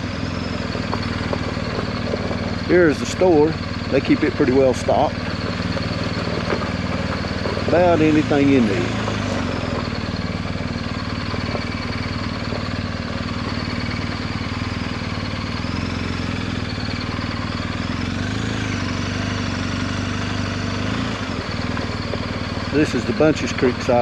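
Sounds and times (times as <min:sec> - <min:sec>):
motorcycle engine at low speed: 0:00.0 - 0:24.0.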